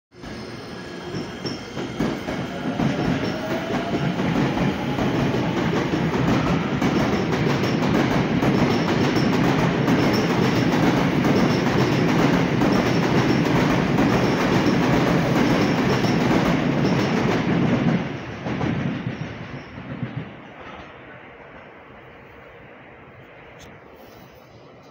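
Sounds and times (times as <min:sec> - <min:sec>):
electric train running past: 0:00.2 - 0:24.9.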